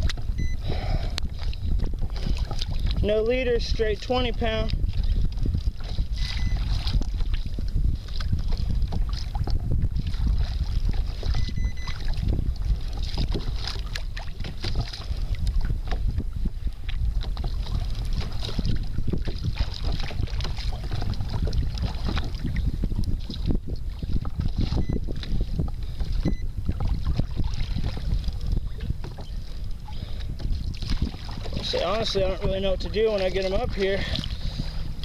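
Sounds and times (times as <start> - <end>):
water splashing against hull: 0.0 - 35.0
wind rumble on microphone: 0.0 - 35.0.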